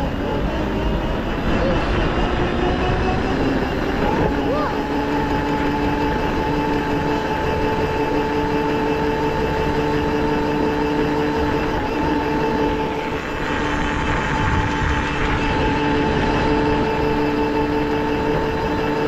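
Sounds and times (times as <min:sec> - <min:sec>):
quad bike engine whine: 0:00.0 - 0:19.0.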